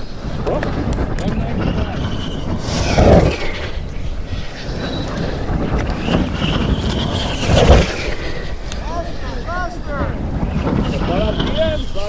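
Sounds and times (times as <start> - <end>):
glider whooshing past: 0.0 - 12.0
wind buffeting the microphone: 0.0 - 12.0.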